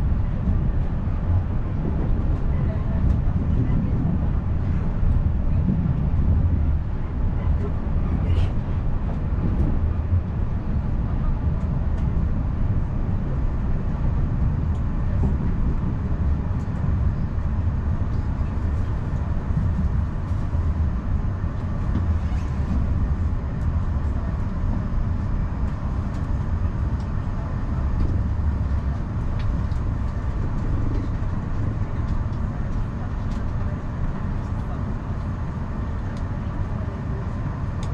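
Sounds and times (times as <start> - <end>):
train wheels rumbling on track: 0.0 - 37.9.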